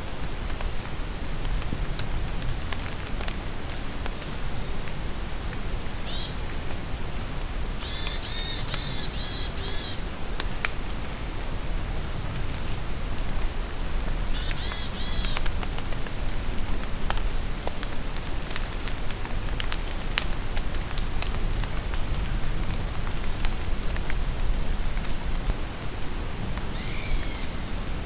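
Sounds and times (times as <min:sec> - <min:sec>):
rain falling in forest: 0:00.0 - 0:28.0
raindrops ticking: 0:00.2 - 0:09.1, 0:12.5 - 0:26.9.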